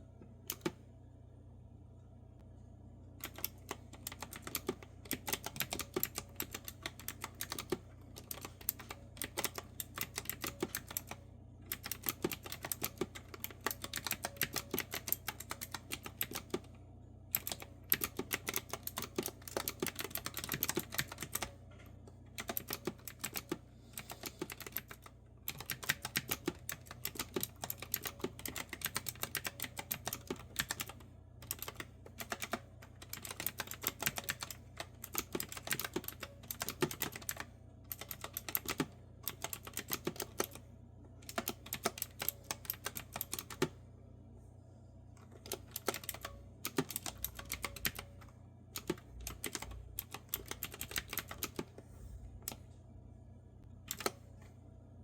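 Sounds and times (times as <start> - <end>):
clicky keyboard typing: 0.5 - 0.8, 3.2 - 16.7, 17.3 - 40.6, 41.2 - 43.8, 45.2 - 51.8, 53.9 - 54.2.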